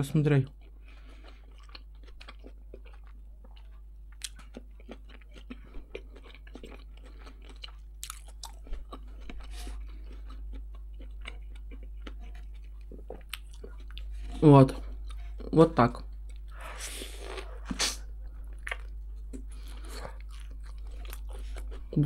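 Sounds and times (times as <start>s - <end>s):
person chewing food: 0.4s - 22.0s.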